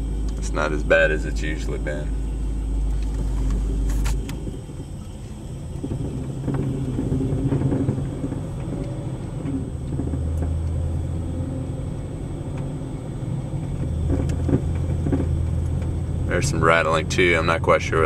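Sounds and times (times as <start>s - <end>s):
car engine idling roughly: 0.0s - 11.3s, 13.0s - 18.0s.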